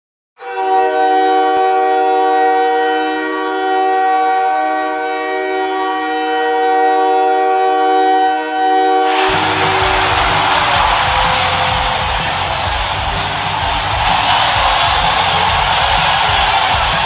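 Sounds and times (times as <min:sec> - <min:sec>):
goal horn blast: 0:00.4 - 0:17.0.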